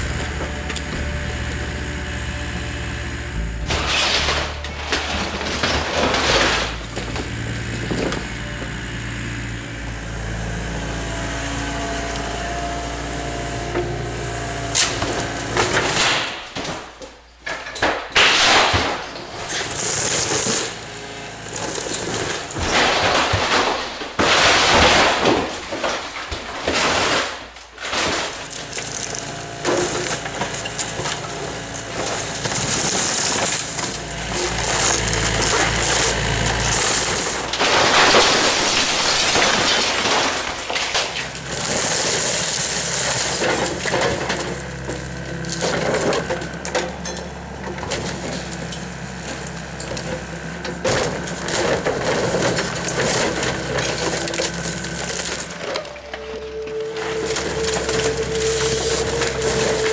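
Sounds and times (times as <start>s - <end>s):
excavator diesel engine: 0.0s - 17.7s, 18.7s - 24.4s, 28.3s - 59.9s
debris crashing: 0.0s - 59.9s
timber splintering and cracking: 0.0s - 59.9s.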